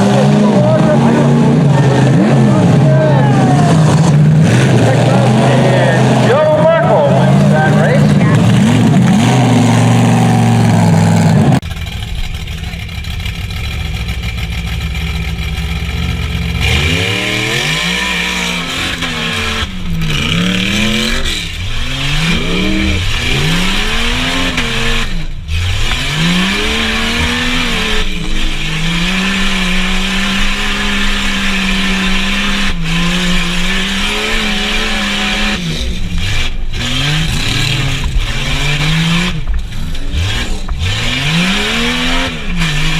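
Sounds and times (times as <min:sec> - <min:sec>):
engine revving: 0:00.0 - 0:42.9.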